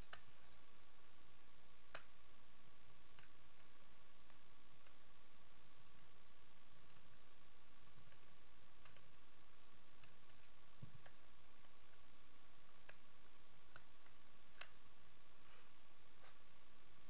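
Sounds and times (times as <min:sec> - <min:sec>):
faint high hum: 0:00.0 - 0:17.0
steady hiss: 0:00.0 - 0:17.0.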